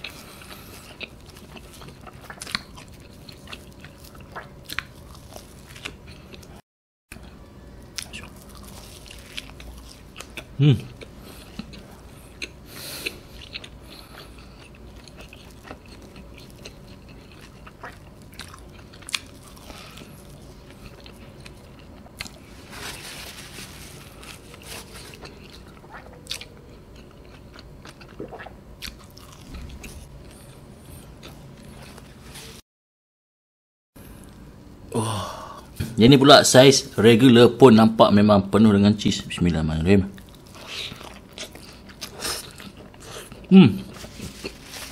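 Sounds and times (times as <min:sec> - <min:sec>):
person chewing pizza crust: 0:00.0 - 0:32.5, 0:40.1 - 0:44.9.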